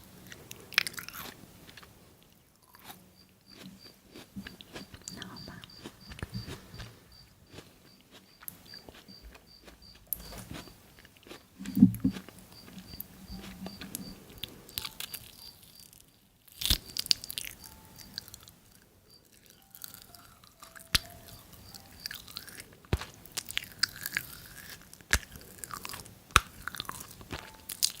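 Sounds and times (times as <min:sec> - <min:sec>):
person chewing crunchy food: 0:00.2 - 0:28.0.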